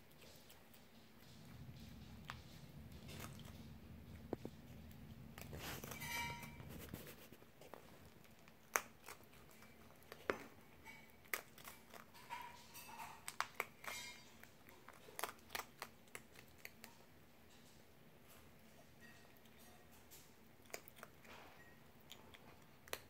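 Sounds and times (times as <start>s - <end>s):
fox chewing crunchy food: 0.0s - 12.6s, 13.2s - 17.2s, 20.4s - 23.0s.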